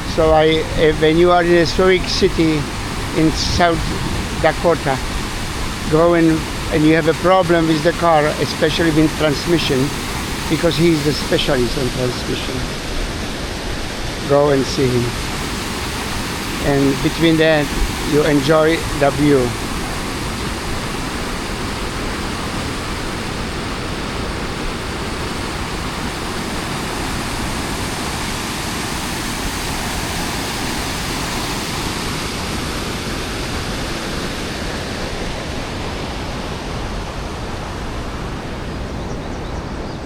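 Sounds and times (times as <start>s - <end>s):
waterfall roaring over rocks: 0.0s - 39.0s.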